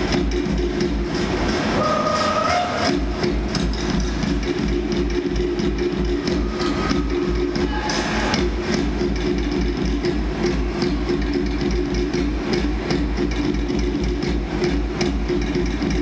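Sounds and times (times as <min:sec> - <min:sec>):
fast low drumbeat: 0:00.0 - 0:16.0
stage show music: 0:00.0 - 0:16.0.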